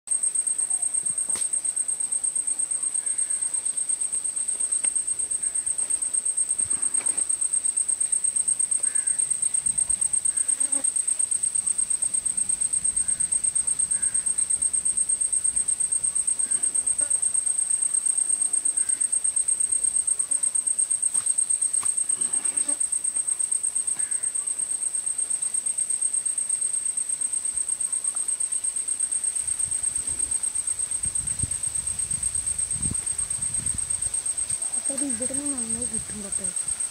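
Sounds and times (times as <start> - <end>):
insect trilling: 0.1 - 36.9.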